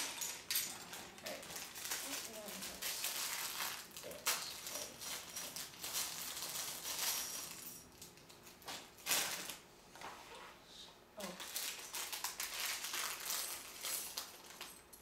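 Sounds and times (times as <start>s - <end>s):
plastic bags crinkling: 0.0s - 9.7s, 11.2s - 15.0s.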